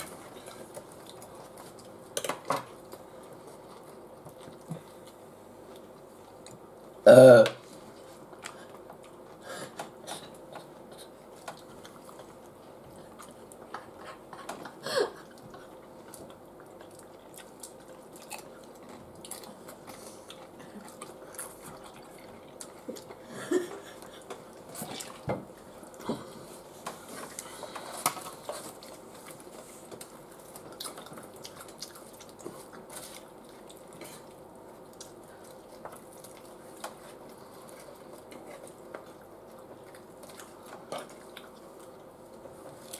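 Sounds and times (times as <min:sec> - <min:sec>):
chewing and crunching: 0:00.0 - 0:06.7, 0:07.9 - 0:42.9.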